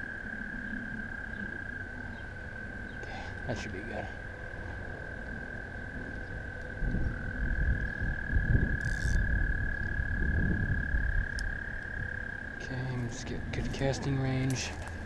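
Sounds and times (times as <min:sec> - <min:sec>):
low rumble on microphone: 0:00.0 - 0:15.0
toads trilling: 0:00.0 - 0:15.0.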